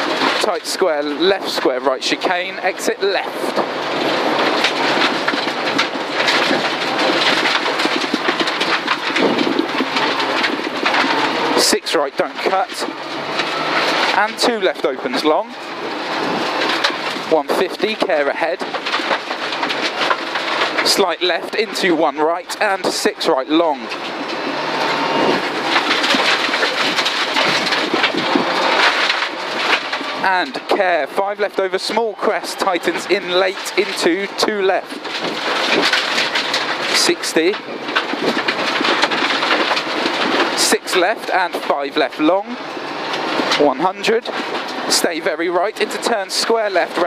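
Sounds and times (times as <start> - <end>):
car engine: 0.0 - 47.0
gravel rattling against car: 0.0 - 47.0.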